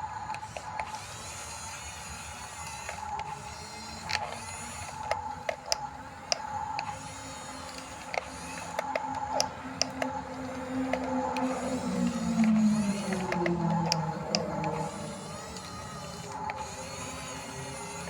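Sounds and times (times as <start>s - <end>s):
electric motor and gear whine: 0.0s - 18.0s.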